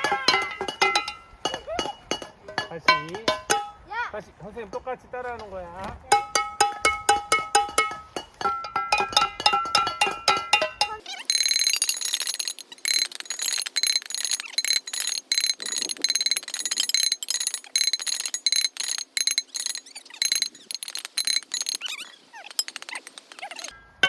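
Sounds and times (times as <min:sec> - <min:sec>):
small metal bell ringing: 0:00.0 - 0:03.8, 0:06.1 - 0:24.0.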